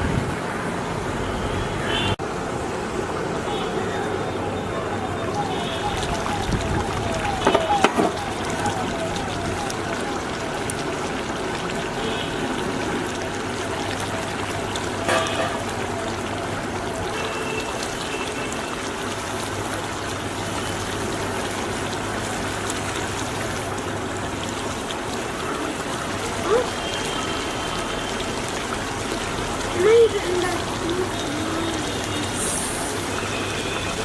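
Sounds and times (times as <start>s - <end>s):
gravy bubbling and sizzling: 1.9s - 34.0s.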